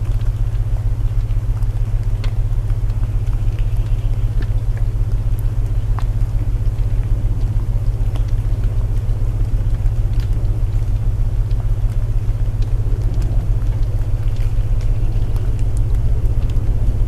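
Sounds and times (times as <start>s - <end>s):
deep droning tone: 0.0s - 17.0s
wood crackling in a fireplace: 0.0s - 17.0s
rain hissing: 2.6s - 17.0s.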